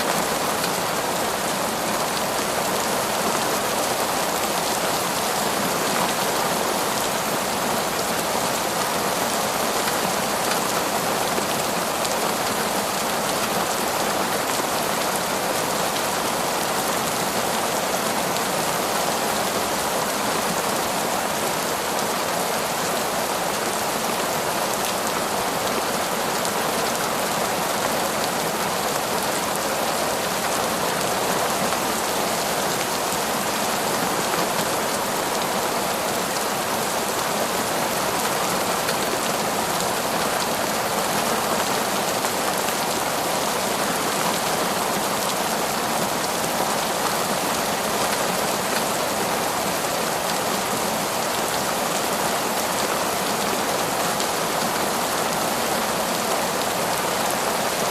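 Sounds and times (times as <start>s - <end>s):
heavy rain on foliage: 0.0s - 57.9s.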